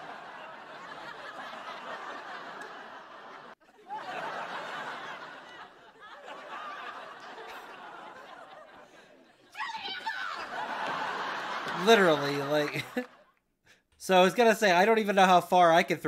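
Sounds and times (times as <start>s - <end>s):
studio audience laughing: 0.0s - 13.4s.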